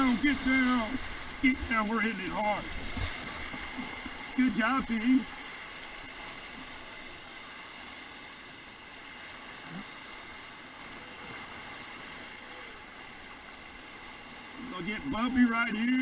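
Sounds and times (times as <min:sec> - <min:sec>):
whitewater river rushing: 0:00.0 - 0:16.0.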